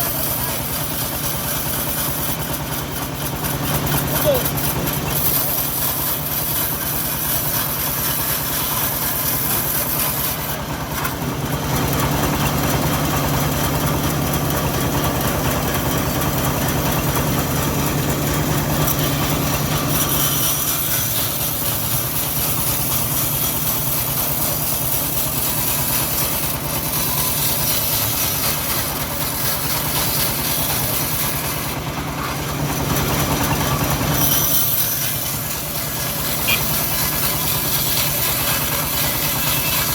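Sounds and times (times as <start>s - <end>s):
band sawmill engine running: 0.0s - 39.9s.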